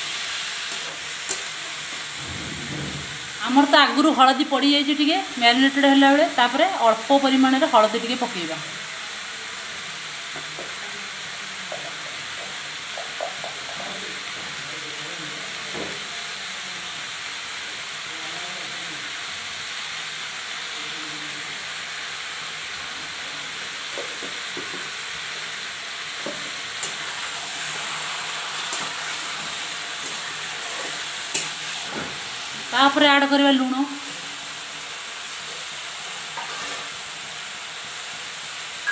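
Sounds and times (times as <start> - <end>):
meat sizzling in hot oil: 0.0 - 38.9.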